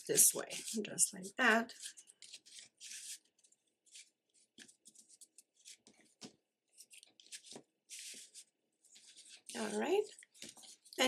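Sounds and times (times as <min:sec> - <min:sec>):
paper rustling and scraping: 0:00.0 - 0:11.0.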